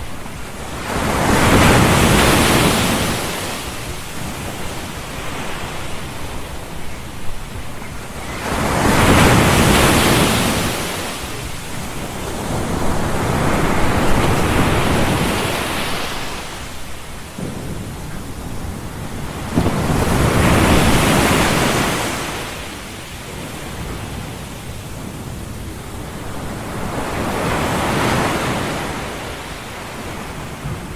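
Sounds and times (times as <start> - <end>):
rushing surf-like noise: 0.0 - 30.9.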